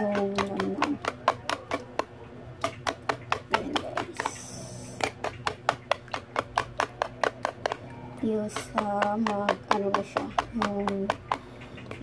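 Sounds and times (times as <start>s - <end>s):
eggs beaten in a bowl: 0.0s - 12.0s.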